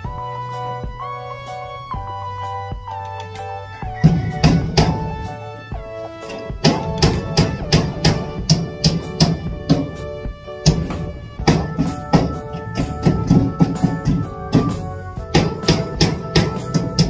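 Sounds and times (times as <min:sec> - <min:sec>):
music with percussion beat: 0:00.0 - 0:17.0.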